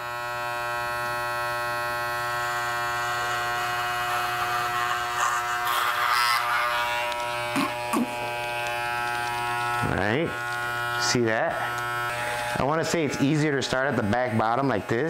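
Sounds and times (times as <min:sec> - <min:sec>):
electric hair clipper buzzing: 0:00.0 - 0:15.0
clipper blade cutting hair: 0:00.3 - 0:15.0.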